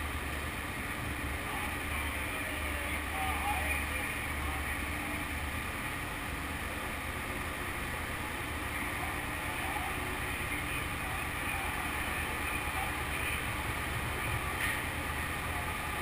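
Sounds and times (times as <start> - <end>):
motorcycle engines running: 0.0 - 16.0.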